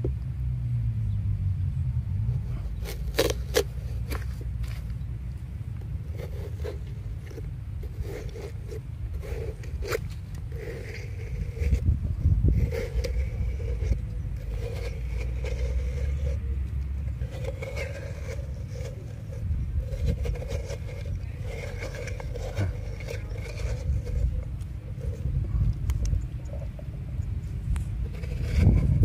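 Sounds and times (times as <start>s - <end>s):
steady low rumble: 0.0s - 29.0s
metal spoon scraping watermelon: 2.5s - 4.2s, 6.0s - 26.9s, 28.0s - 29.0s.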